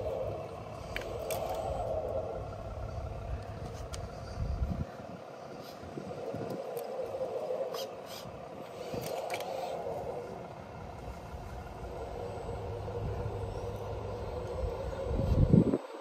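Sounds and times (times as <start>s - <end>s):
model truck motor whine: 0.0s - 16.0s.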